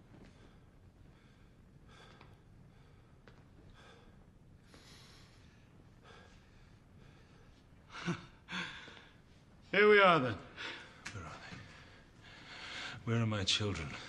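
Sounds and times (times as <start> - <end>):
man breathing heavily: 0.0 - 9.4, 10.5 - 13.0.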